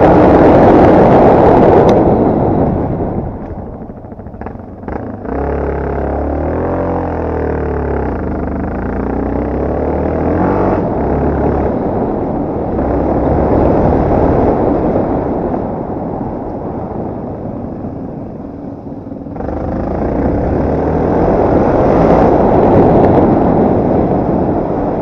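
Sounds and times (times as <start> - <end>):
motorcycle engine revving: 0.0 - 15.8, 19.3 - 25.0.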